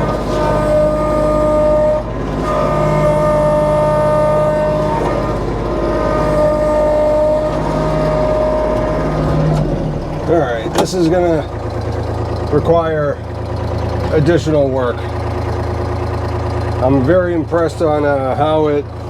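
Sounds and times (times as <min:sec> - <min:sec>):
diesel tractor engine under load: 0:00.0 - 0:19.0
hydraulic whine: 0:00.0 - 0:19.0.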